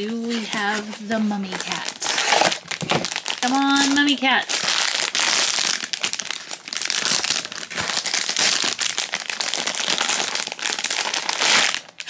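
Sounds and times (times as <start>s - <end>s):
foil pouch crinkling: 0.0s - 12.0s.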